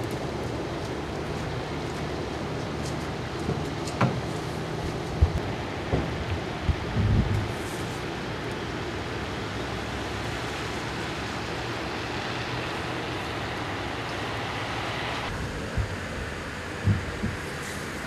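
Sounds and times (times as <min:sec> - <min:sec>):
low engine hum: 0:00.0 - 0:18.0
road hiss: 0:00.0 - 0:18.0.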